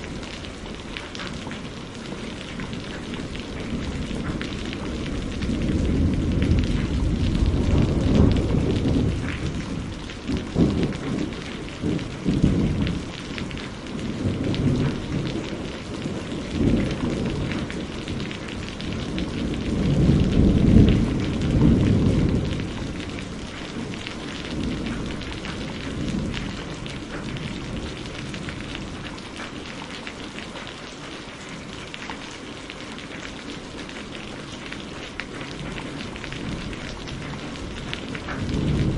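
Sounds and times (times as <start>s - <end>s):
rolling thunder: 0.0s - 29.5s, 35.4s - 38.9s
steady rain falling: 0.0s - 38.9s.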